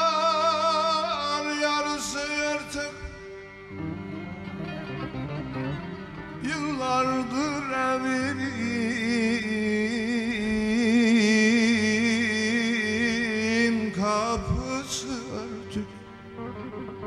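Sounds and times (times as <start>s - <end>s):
instrumental drone: 0.0s - 17.0s.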